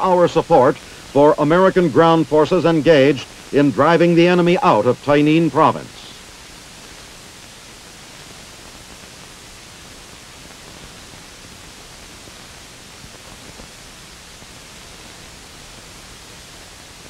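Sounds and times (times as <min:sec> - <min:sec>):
old film soundtrack hiss: 0:00.0 - 0:17.0.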